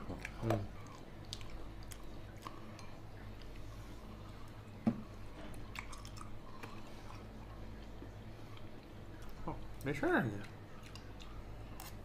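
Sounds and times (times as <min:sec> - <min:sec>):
person chewing with wet clicks: 0:00.0 - 0:12.0.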